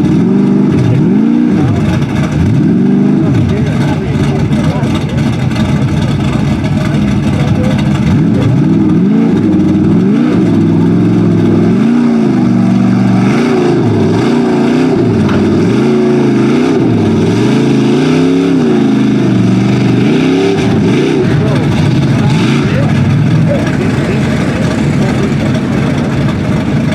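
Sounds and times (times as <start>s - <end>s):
truck engine revving: 0.0s - 26.9s.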